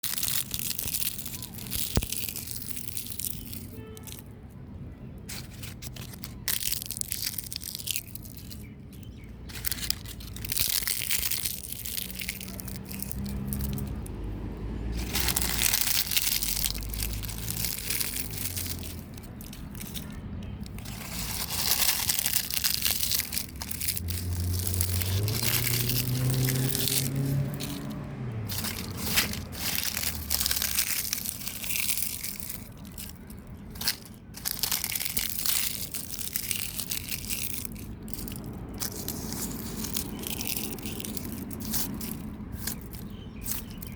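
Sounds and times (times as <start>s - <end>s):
leaves crackling and crunching: 0.0s - 43.9s.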